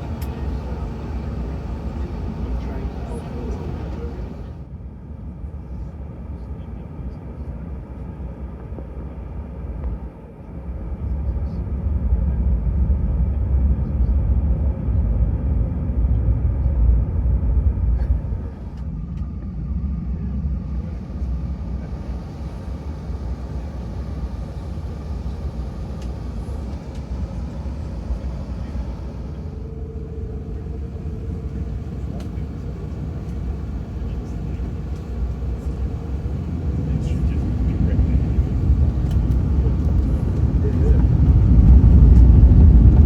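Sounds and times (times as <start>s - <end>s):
airplane cabin rumble: 0.0s - 4.7s, 5.4s - 43.0s.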